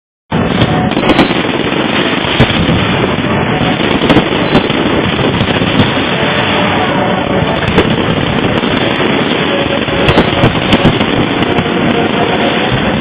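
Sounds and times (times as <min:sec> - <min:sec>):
fireworks bangs and crackles: 0:00.3 - 0:13.0.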